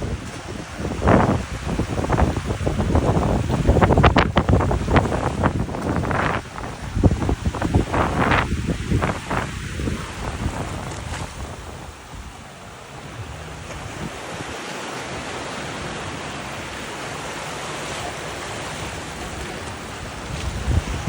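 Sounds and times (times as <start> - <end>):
sea surf washing on beach: 0.0 - 21.0
wind buffeting microphone: 0.0 - 21.0.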